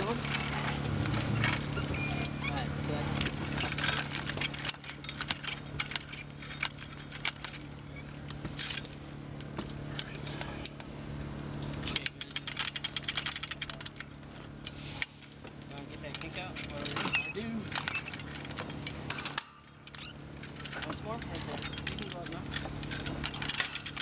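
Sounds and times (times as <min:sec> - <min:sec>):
metal clinking on steel grate: 0:00.0 - 0:24.0.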